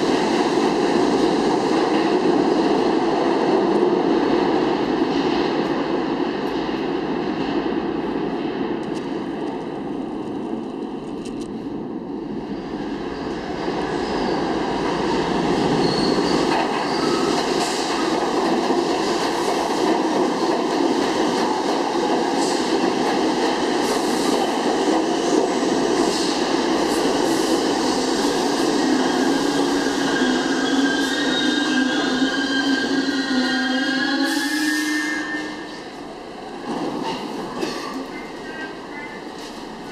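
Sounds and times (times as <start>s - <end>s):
subway train rumble: 0.0s - 39.9s.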